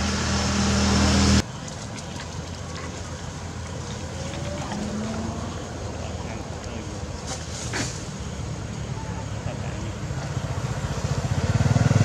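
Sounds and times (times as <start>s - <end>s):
engine hum with hiss: 0.0s - 12.0s.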